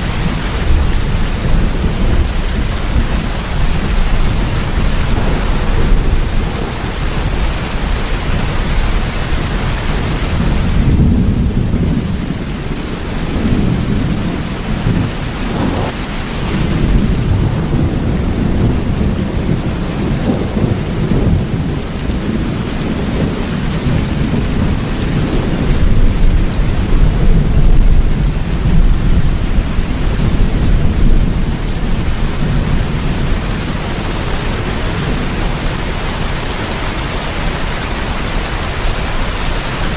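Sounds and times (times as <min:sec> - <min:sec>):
rolling thunder: 0:00.0 - 0:36.5
heavy rain: 0:00.0 - 0:39.9.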